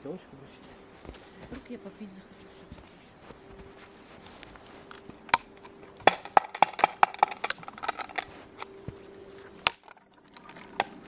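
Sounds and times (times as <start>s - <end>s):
kindling crackling: 0.0s - 11.0s.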